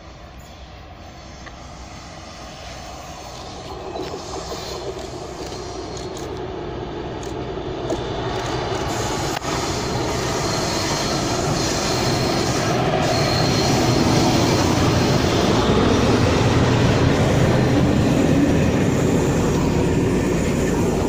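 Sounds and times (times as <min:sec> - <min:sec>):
diesel locomotive engine: 0:00.0 - 0:21.0.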